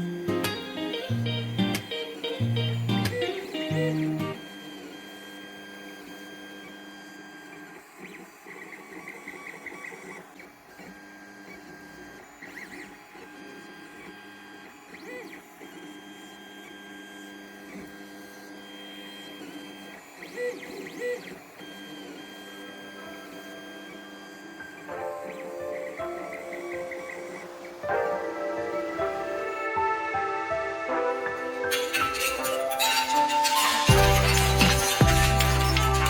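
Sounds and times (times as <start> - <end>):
printer stepper motors whining: 0.0 - 36.0.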